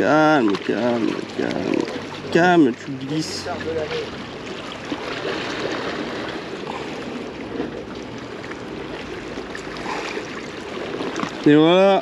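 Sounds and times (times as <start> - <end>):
sea water splashing on rocks: 0.0 - 12.0.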